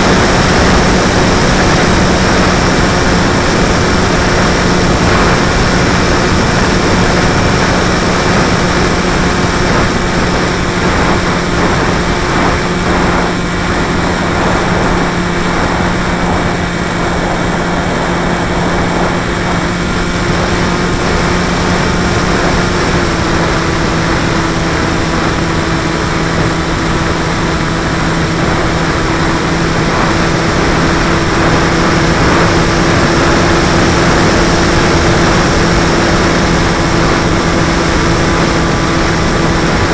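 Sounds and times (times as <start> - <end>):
electric motor and propeller hum: 0.0 - 39.9
rushing air noise: 0.0 - 39.9.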